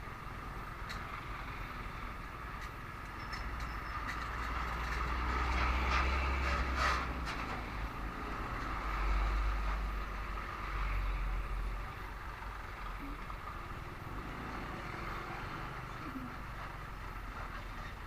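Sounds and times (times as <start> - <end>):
surrounding traffic: 0.0 - 18.0.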